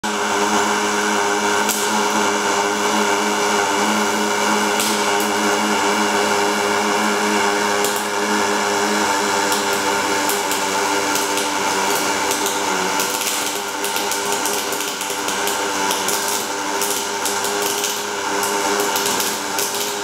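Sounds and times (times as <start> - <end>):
welding arc buzzing: 0.0 - 20.0
welding arc crackles: 1.5 - 8.6, 9.3 - 20.0.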